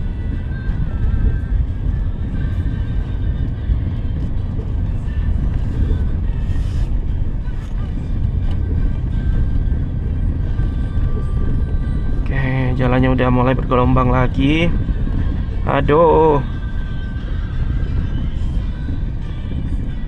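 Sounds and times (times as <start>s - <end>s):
background music: 0.0s - 20.0s
engine and tyre rumble: 0.0s - 20.0s.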